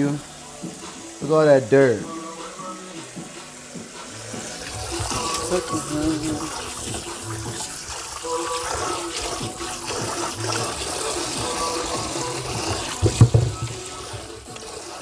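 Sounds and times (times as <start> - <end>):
faucet water running into sink: 0.0 - 15.0.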